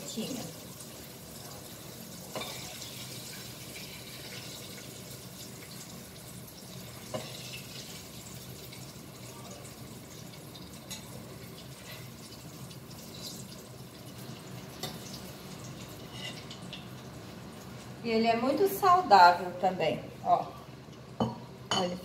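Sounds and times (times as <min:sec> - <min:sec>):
vegetables sizzling in frying oil: 0:00.0 - 0:21.6.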